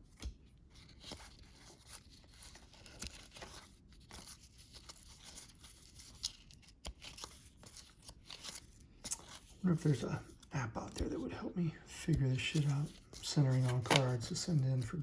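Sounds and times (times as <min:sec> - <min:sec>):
trading cards being handled: 0:00.1 - 0:15.0.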